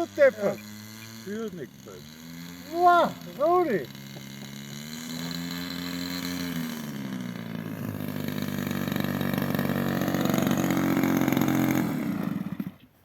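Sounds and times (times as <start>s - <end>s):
model plane two-stroke engine running: 0.0s - 12.9s.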